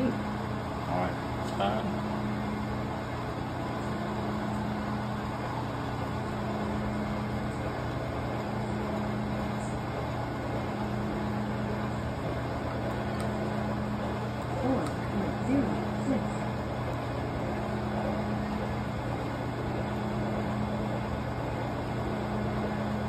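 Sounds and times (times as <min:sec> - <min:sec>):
milling machine motor hum: 0:00.0 - 0:23.0.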